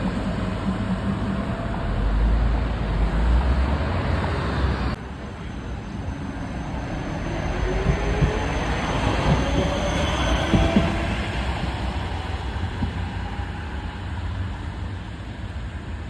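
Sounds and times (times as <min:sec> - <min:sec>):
street noise: 0:00.0 - 0:16.0
tram rumbling with motor whine: 0:00.0 - 0:16.0.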